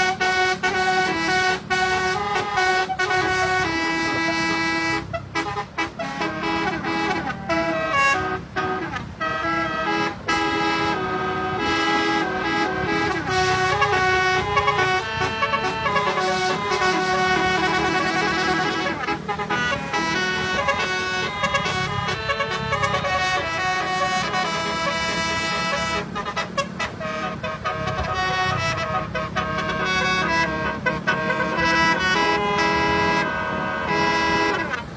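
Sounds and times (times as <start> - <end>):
musical air horn melody: 0.0 - 34.9.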